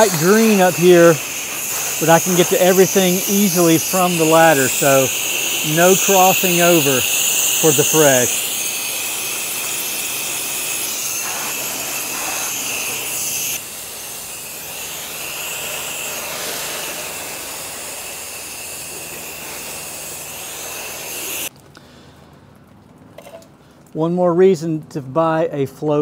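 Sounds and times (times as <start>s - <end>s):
pressure washer spraying water: 0.0s - 21.5s.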